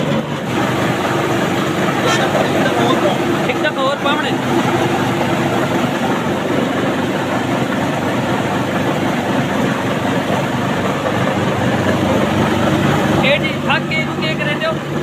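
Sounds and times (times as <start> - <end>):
rice mill running: 0.0 - 15.0.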